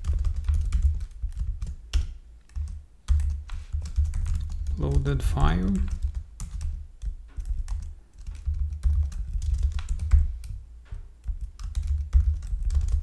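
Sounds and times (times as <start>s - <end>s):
keyboard typing clicks: 0.0s - 13.0s.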